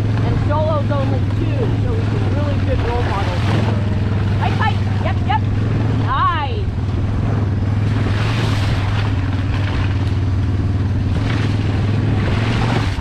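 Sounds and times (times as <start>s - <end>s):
wheels and paws crunching on gravel: 0.0s - 6.1s, 6.7s - 13.0s
small engine running: 0.0s - 13.0s.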